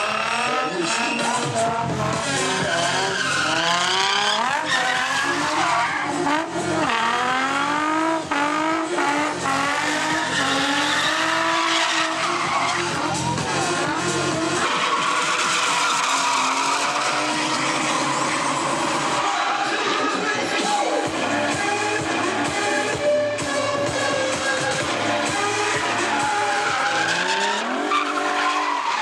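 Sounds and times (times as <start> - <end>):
tyres screeching: 0.0 - 7.2, 9.4 - 21.0, 23.2 - 29.0
car engine revving hard: 0.0 - 29.0.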